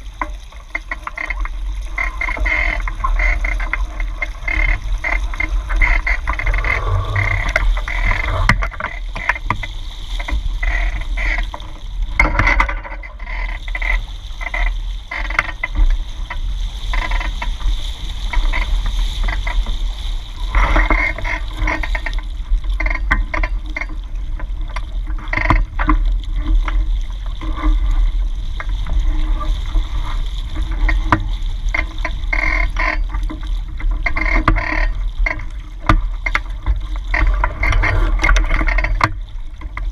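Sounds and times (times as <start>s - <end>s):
water rushing along hulls: 0.0s - 39.9s
wind rumble on microphone: 0.0s - 39.9s.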